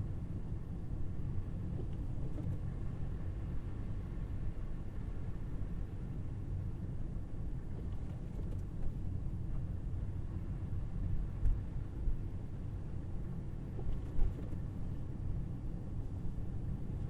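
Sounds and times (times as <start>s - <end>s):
road and tyre noise: 0.0s - 17.0s.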